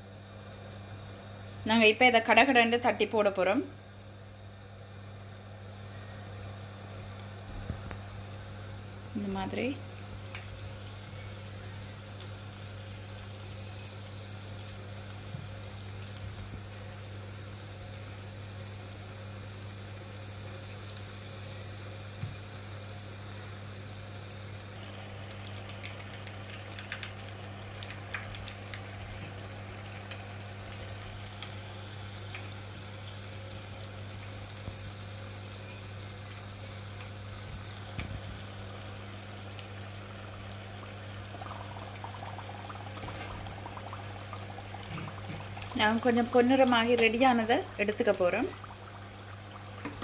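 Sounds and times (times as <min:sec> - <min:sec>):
steady low hum: 0:00.0 - 0:50.0
fritters sizzling in hot oil: 0:05.0 - 0:50.0.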